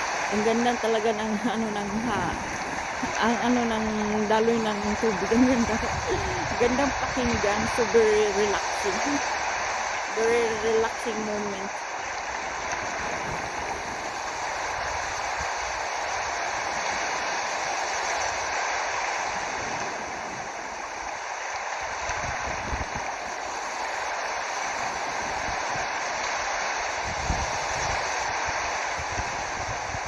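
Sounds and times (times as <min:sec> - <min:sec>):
water flowing steadily: 0:00.0 - 0:30.0.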